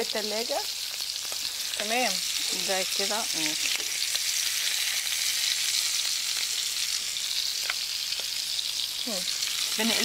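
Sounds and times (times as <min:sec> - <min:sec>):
meat patties sizzling in a pan: 0:00.0 - 0:10.0.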